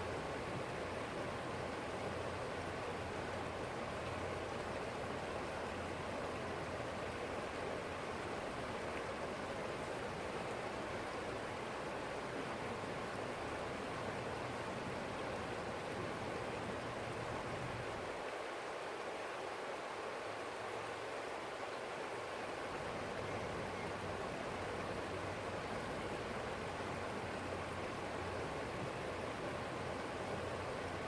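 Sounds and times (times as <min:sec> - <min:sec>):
stream flowing: 0:00.0 - 0:31.0.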